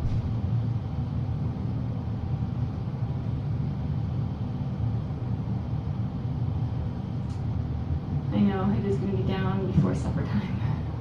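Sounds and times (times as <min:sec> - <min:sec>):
low machine rumble: 0:00.0 - 0:11.0.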